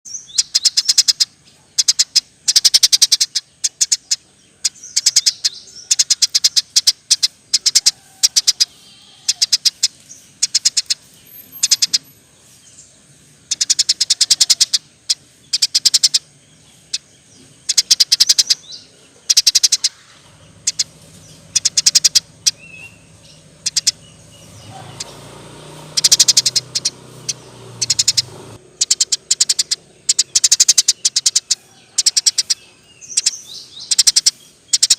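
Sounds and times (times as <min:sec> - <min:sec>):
sparrow chirping: 0:00.1 - 0:34.9.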